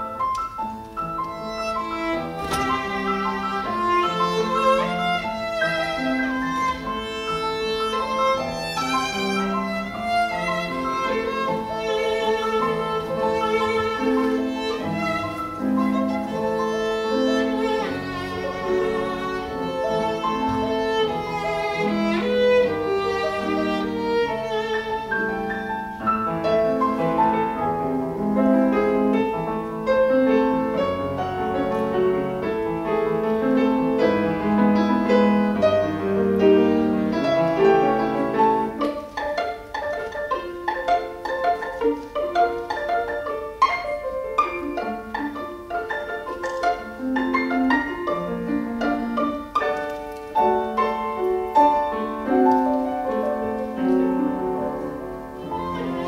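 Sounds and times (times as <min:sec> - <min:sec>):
piano accompaniment: 0:00.0 - 0:56.0
violin melody: 0:00.0 - 0:56.0.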